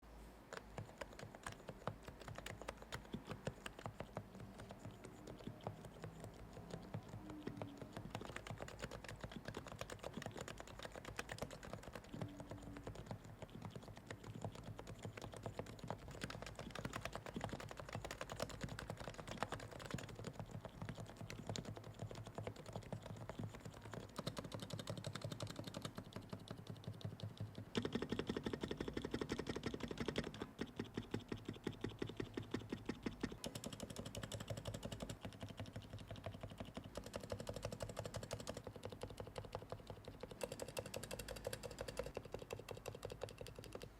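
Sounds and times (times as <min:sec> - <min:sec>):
fast typing on keyboard: 0:00.5 - 0:43.9.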